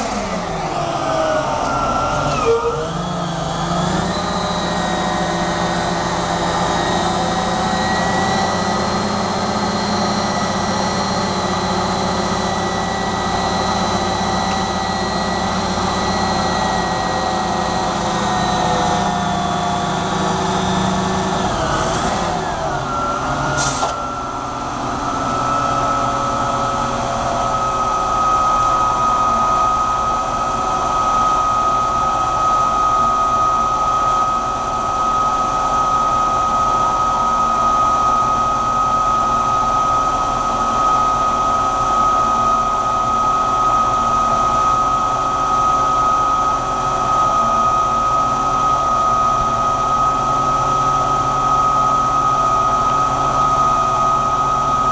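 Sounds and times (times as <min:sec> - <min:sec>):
forklift engine running: 0:00.0 - 0:54.9
sustained whine: 0:00.0 - 0:54.9.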